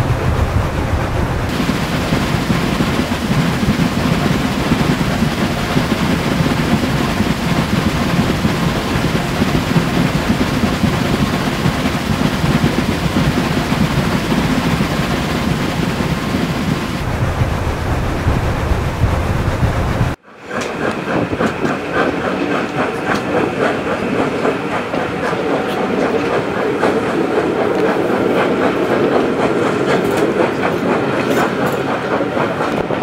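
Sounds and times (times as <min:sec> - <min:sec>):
train carriages rumbling: 0:00.0 - 0:33.0.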